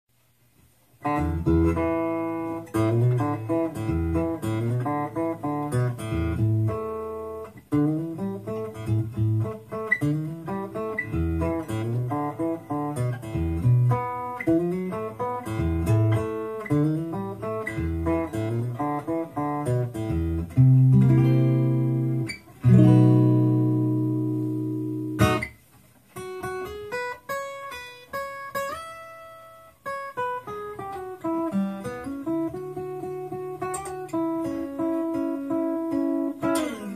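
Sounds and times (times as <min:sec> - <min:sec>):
acoustic guitar fingerpicking: 0:00.6 - 0:36.9.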